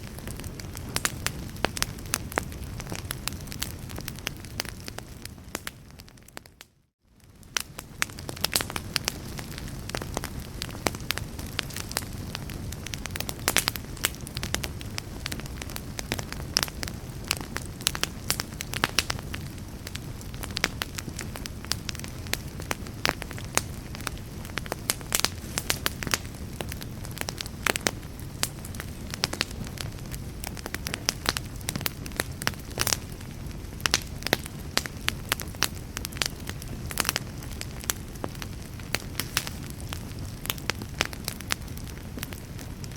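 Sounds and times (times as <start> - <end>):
fire crackling: 0.0 - 42.9.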